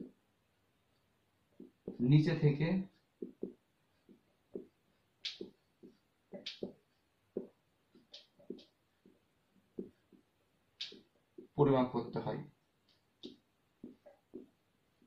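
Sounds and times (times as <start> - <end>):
marker pen writing on whiteboard: 0.9 - 15.0.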